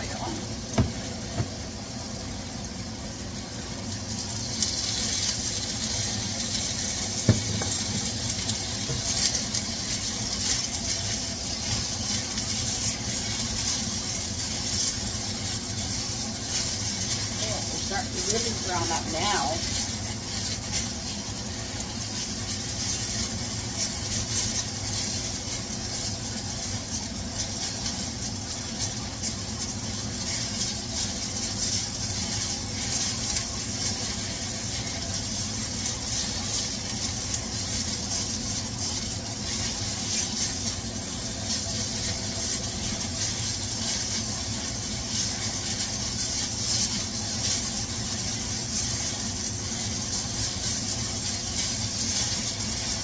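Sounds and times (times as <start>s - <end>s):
chicken sizzling in hot oil: 0.0s - 53.0s.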